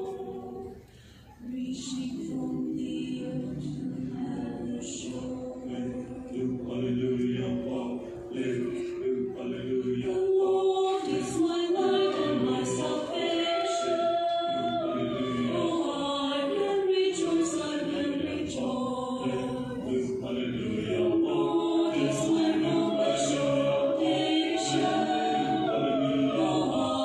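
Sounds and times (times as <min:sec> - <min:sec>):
mixed choir singing a cappella: 0:00.0 - 0:27.0.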